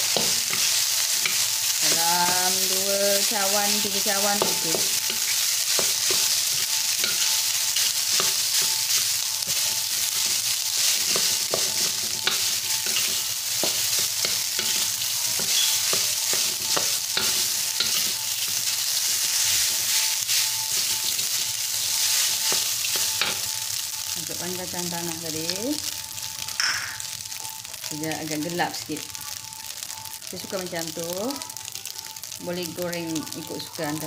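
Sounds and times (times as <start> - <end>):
rice sizzling in a wok: 0.0 - 34.0.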